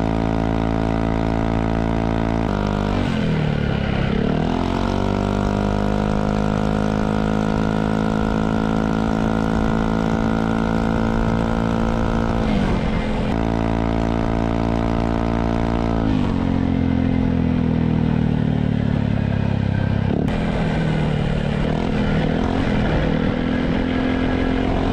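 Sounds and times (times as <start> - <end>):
scooter engine revving: 0.0 - 17.3, 19.0 - 24.9.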